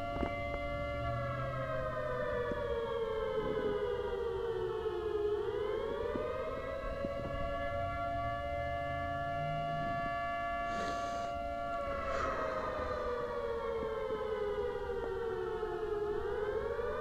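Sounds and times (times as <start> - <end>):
civil defense siren: 0.0 - 17.0.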